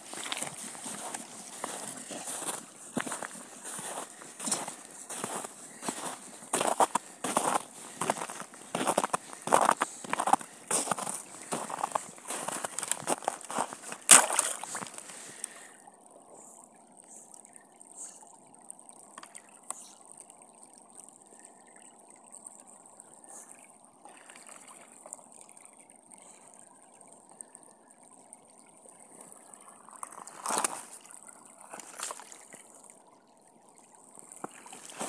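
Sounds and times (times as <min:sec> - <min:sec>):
river water trickling over pebbles: 0:00.0 - 0:35.0.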